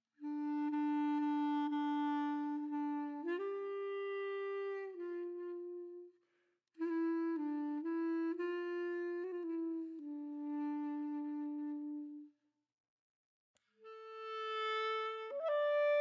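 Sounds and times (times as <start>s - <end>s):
slow woodwind melody: 0.0s - 6.2s, 6.8s - 12.4s, 13.8s - 16.0s.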